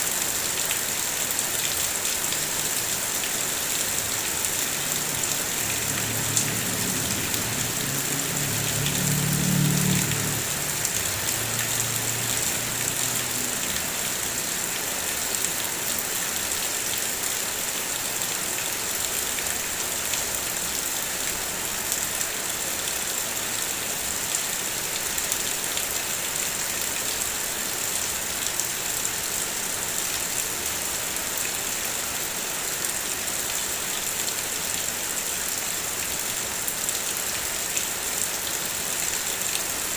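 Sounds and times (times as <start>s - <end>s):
heavy rain on car body: 0.1s - 39.9s.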